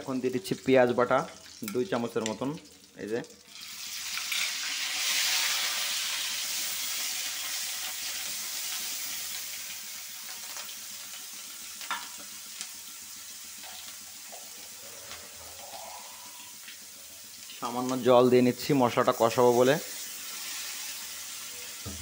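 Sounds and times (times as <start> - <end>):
paste sizzling in hot oil: 3.5 - 22.0.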